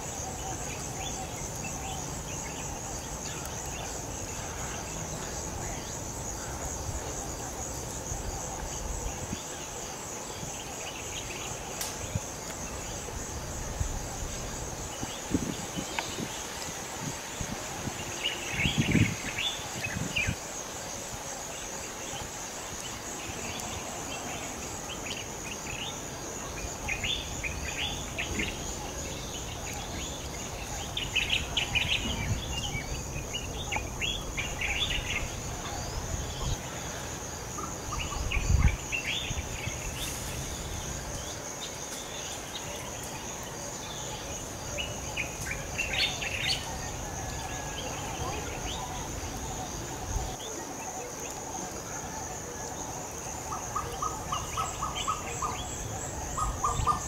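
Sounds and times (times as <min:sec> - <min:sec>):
insect chorus pulsing: 0:00.0 - 0:57.0.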